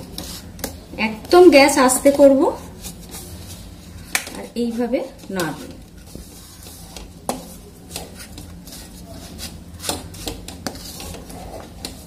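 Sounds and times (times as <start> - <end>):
spatula scraping a pan: 0.0 - 0.8, 1.9 - 12.0.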